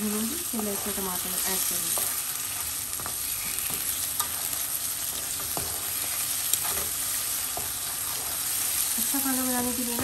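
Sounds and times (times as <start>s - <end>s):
chicken sizzling in hot oil: 0.0s - 10.0s
spatula scraping and tapping pan: 0.6s - 8.8s.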